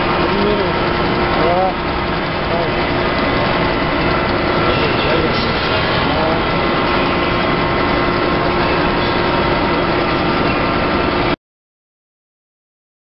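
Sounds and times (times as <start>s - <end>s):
stitching machine running: 0.0s - 11.4s.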